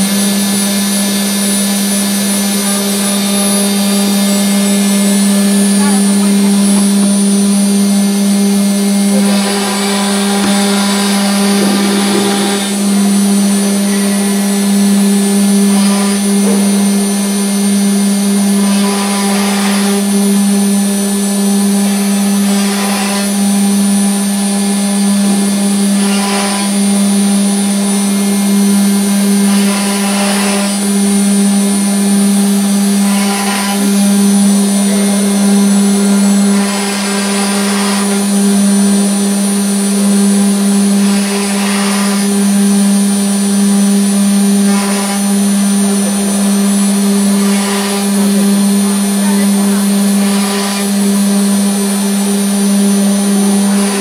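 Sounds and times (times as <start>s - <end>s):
router bit cutting board: 0.0s - 54.0s
router spindle whine: 0.0s - 54.0s.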